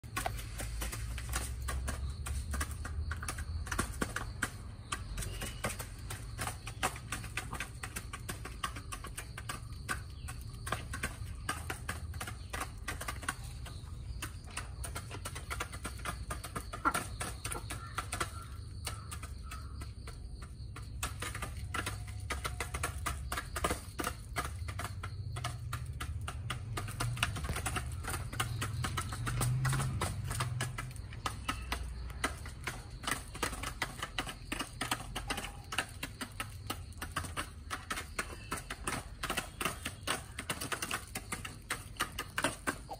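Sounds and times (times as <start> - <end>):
chickens pecking feed: 0.0 - 42.9.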